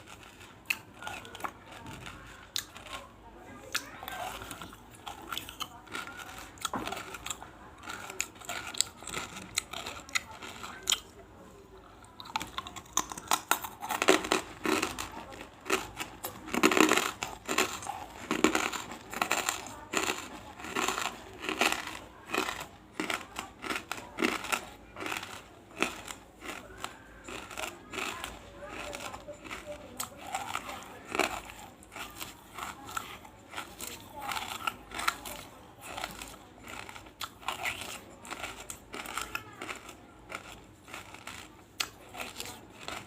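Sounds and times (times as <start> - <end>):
crunching and crackling of chewing: 0.0 - 43.0.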